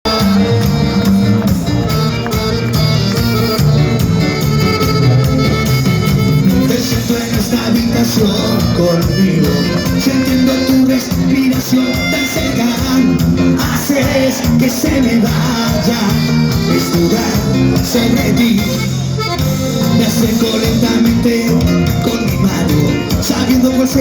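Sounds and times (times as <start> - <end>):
latin dance music: 0.0 - 24.0.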